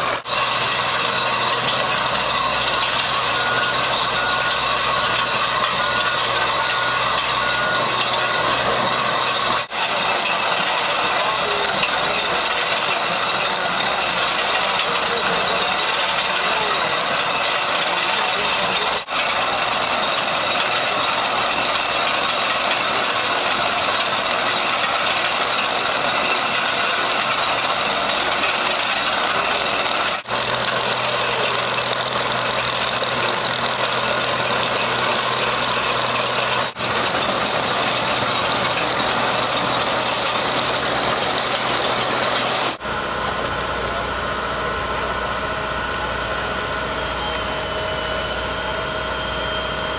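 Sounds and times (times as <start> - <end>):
farm machinery engines running: 0.0 - 49.9.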